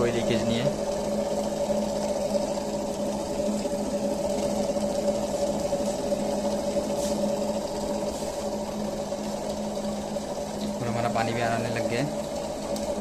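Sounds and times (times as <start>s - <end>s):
water purifier pump humming: 0.0s - 13.0s.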